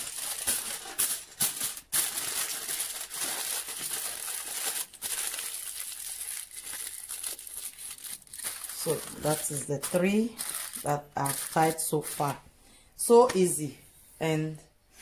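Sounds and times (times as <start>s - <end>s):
aluminium foil crinkling: 0.0s - 12.4s.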